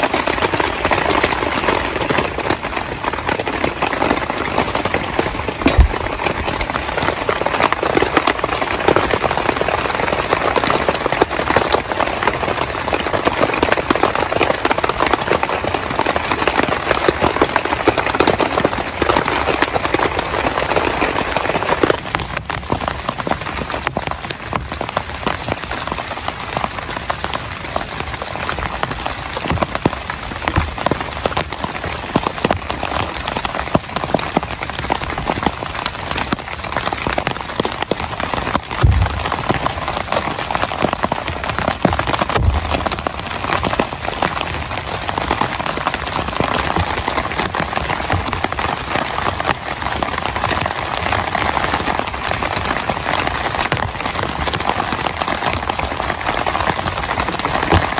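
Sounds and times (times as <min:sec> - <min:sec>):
heavy rain on a tent: 0:00.0 - 0:57.9.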